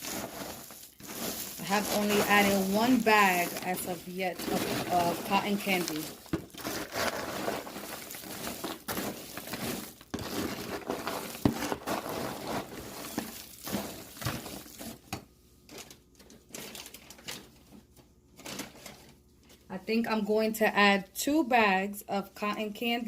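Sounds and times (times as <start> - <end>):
popcorn rustling and crunching in bowl: 0.0 - 19.7.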